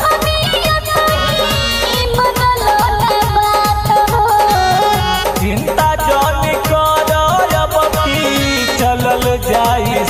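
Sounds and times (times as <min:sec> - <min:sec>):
deep drum beat: 0:00.0 - 0:10.0
stepped melody line: 0:00.0 - 0:10.0.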